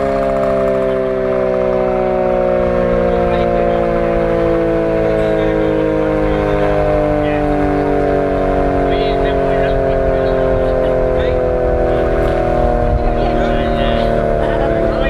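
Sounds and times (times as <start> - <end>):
air raid siren: 0.0 - 15.0.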